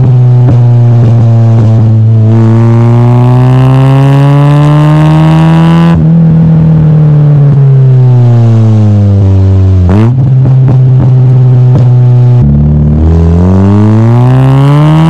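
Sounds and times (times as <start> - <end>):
car exhaust revving: 0.0 - 15.0.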